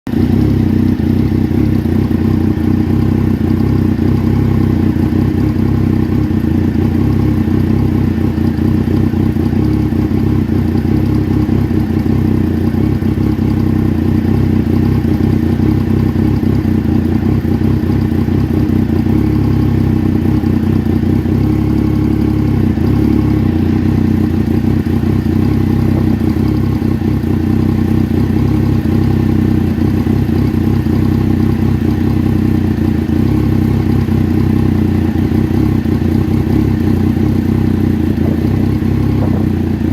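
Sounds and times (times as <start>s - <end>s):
engine rough idling: 0.1s - 39.9s.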